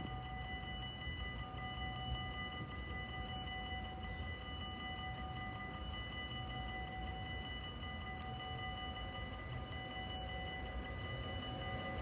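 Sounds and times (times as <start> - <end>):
pulsing high ringing: 0.0 - 12.0.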